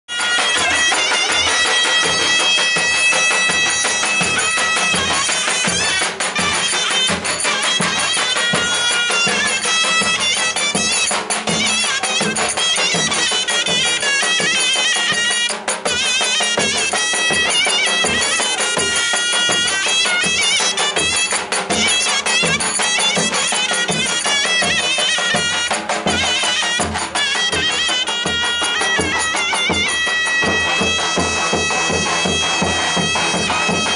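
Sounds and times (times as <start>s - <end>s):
drum beat: 0.1s - 33.9s
reedy wind instrument melody: 0.1s - 33.9s.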